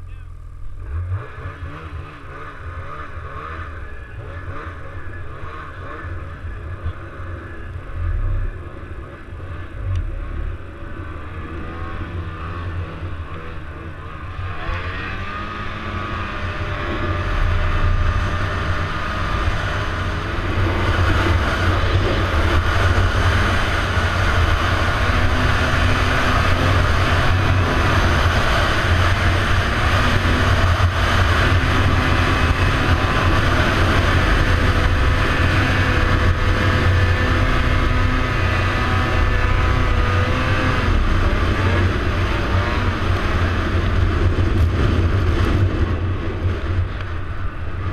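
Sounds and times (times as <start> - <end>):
snowmobile engine and track noise: 0.0 - 47.9.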